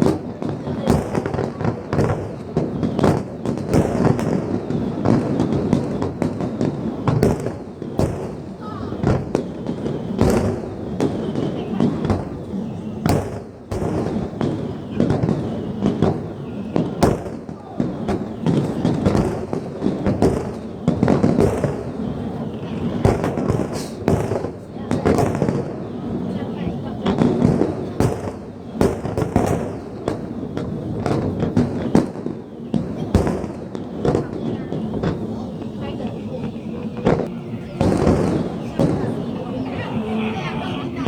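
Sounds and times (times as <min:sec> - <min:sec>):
continuous rumble: 0:00.0 - 0:41.0
fireworks booms and bangs: 0:00.0 - 0:41.0.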